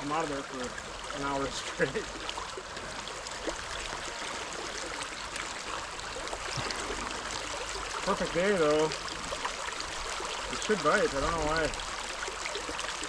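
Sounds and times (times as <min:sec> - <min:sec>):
creek flowing over rocks: 0:00.0 - 0:13.0.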